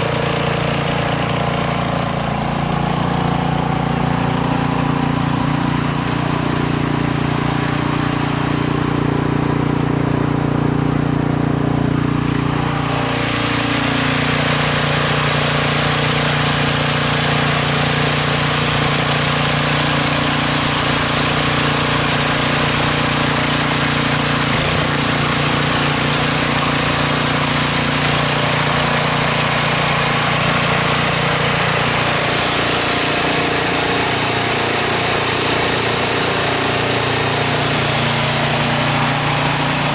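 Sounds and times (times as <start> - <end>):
snow blower engine running: 0.0 - 39.9.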